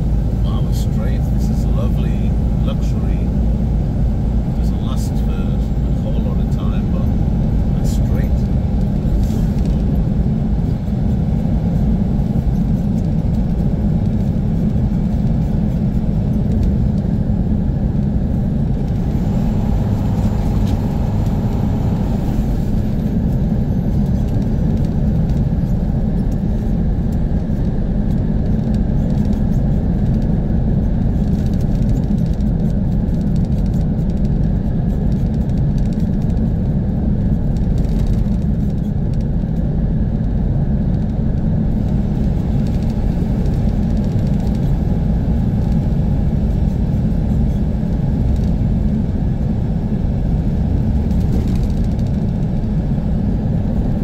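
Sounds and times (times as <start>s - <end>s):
road noise: 0.0s - 54.0s
truck diesel engine rumble: 0.0s - 54.0s.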